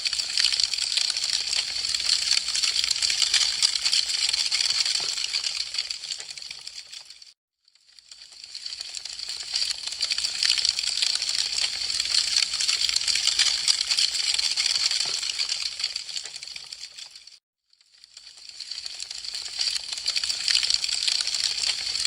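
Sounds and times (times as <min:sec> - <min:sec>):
wood fire crackling: 0:00.1 - 0:07.3, 0:08.1 - 0:17.3, 0:18.3 - 0:22.0.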